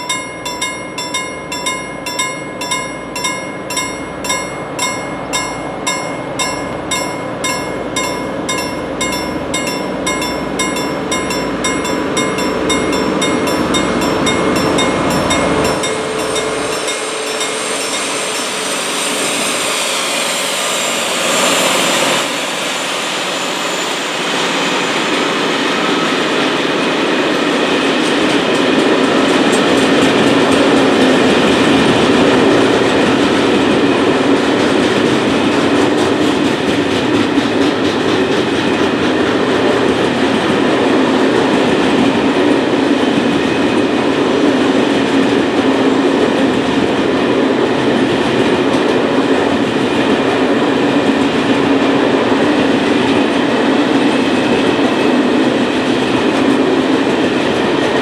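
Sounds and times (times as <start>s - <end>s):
diesel locomotive passing: 0.0s - 57.9s.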